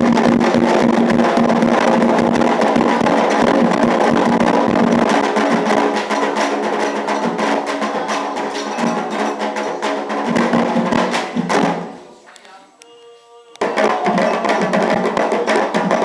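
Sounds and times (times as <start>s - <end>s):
hand drums and clappers: 0.0s - 11.9s, 13.5s - 16.0s.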